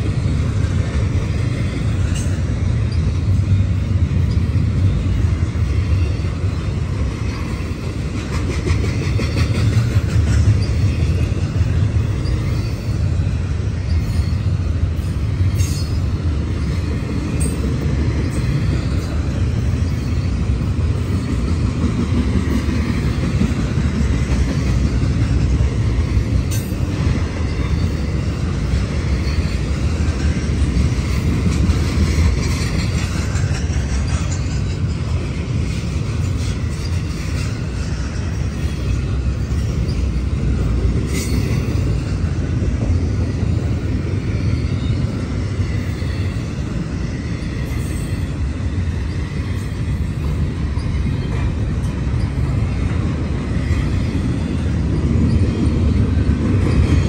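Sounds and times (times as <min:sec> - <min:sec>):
freight train wheels rumbling: 0:00.0 - 0:57.0
sharp ticks from train wheels: 0:00.0 - 0:57.0.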